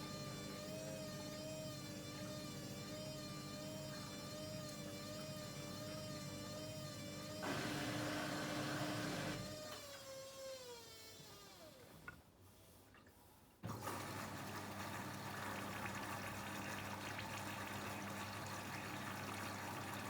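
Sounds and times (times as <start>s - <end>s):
washing machine motor whine: 0.0s - 11.9s, 13.6s - 20.0s.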